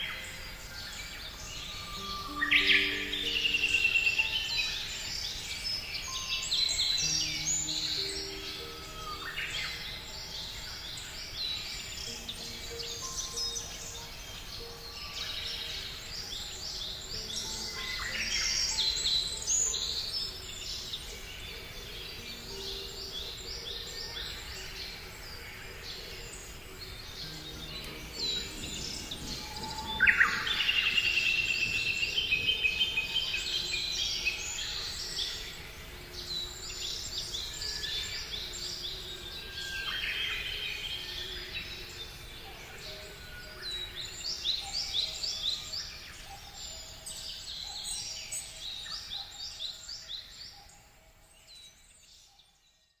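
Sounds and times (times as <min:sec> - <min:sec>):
chorus of small birds chirping: 0:00.0 - 0:53.0.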